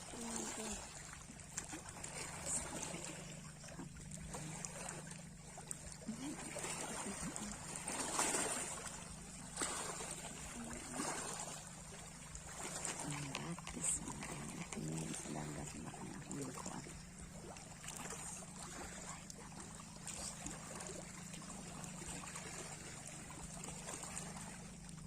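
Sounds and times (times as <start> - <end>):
sea waves washing: 0.0 - 3.6, 6.0 - 24.9
steady low hum: 0.0 - 25.0.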